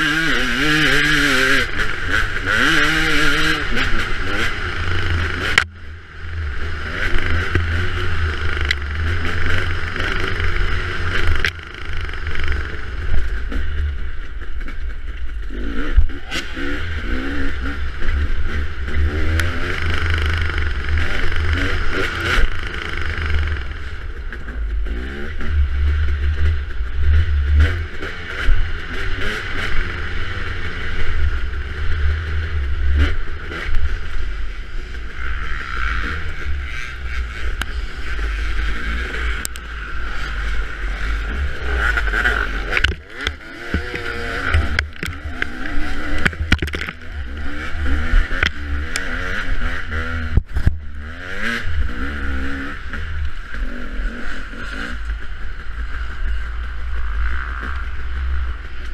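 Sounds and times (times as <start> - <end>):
constant low rumble: 0.0 - 58.9
dirt bike engine revving: 0.0 - 58.9.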